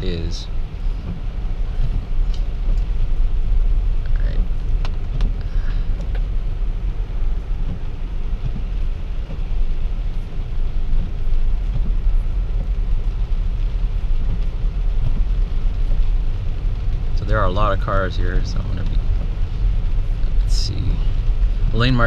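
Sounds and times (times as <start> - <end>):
tyre noise on wet road: 0.0 - 22.0.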